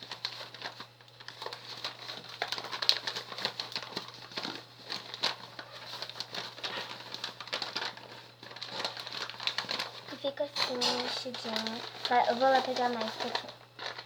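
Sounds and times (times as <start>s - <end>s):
paper crinkling and rustling: 0.0s - 14.0s.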